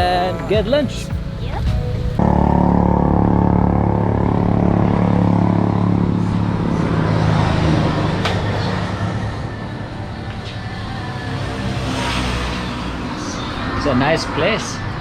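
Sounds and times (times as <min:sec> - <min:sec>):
vehicle engine running: 0:00.0 - 0:14.2.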